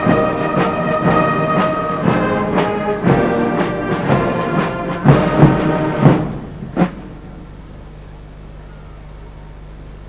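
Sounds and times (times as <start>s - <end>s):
low mains hum: 0.0s - 10.0s
tape hiss: 0.0s - 10.0s.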